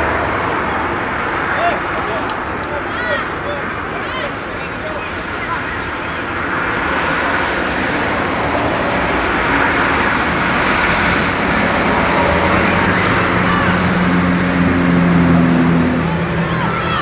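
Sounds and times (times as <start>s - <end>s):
road traffic noise: 0.0s - 17.0s
vehicle engine hum: 0.0s - 17.0s.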